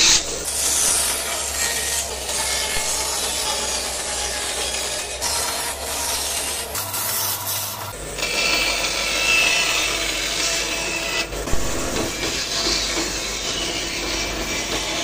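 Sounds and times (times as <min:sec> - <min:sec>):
band saw cutting plywood: 0:00.0 - 0:15.0.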